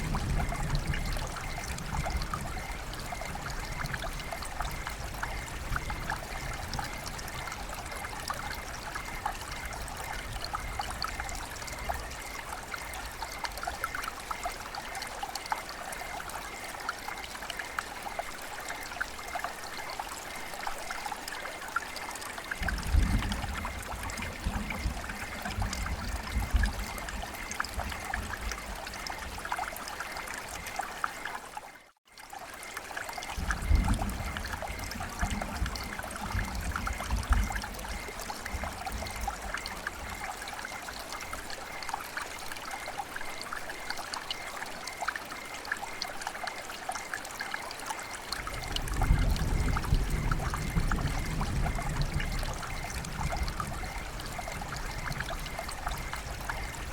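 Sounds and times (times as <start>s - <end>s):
rain falling: 0.0s - 56.9s
water trickling and splashing: 0.0s - 56.9s.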